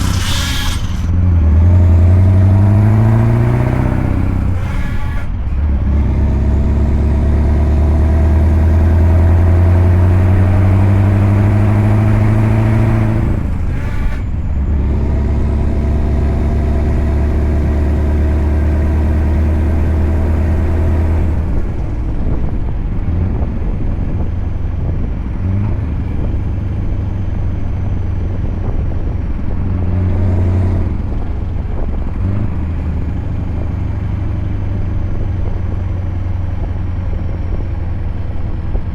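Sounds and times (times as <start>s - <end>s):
diesel truck engine pulling: 0.0s - 38.9s.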